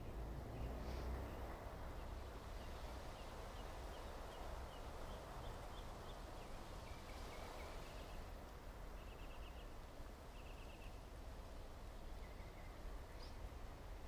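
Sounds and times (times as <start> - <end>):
small birds chirping: 0.0 - 8.3, 8.9 - 11.1, 12.0 - 13.6.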